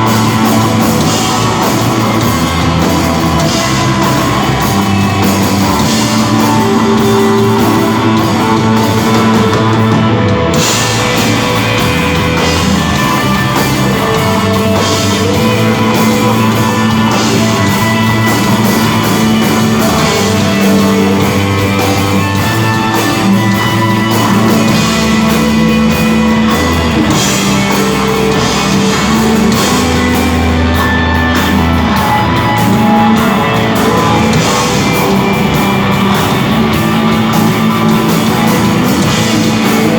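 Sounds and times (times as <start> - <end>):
bass guitar line: 0.0 - 39.9
rock band playing live: 0.0 - 39.9.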